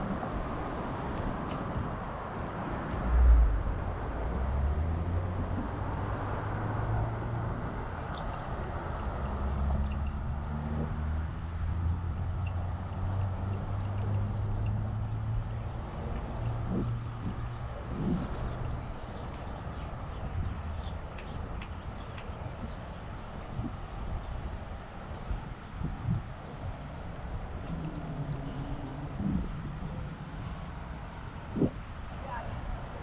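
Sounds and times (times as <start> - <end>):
road noise: 0.0 - 33.0
vehicle engines humming: 0.0 - 33.0.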